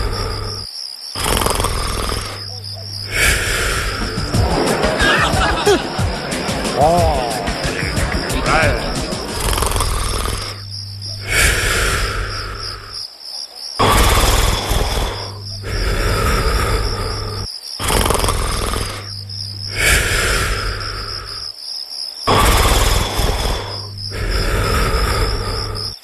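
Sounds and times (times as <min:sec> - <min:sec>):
cartoon snoring: 0:00.0 - 0:13.0, 0:13.8 - 0:21.5, 0:22.2 - 0:26.0
crickets chirping: 0:00.0 - 0:26.0.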